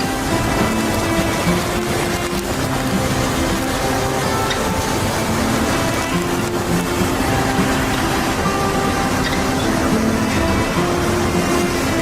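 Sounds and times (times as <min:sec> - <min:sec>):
dense rushing noise: 0:00.0 - 0:12.0
music with long held notes: 0:00.0 - 0:12.0.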